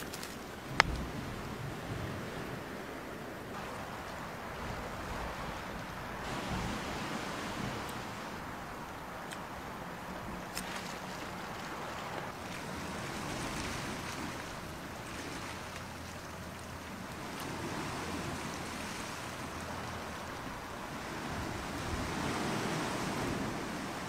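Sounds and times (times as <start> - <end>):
sea waves washing onto shore: 0.0 - 24.0.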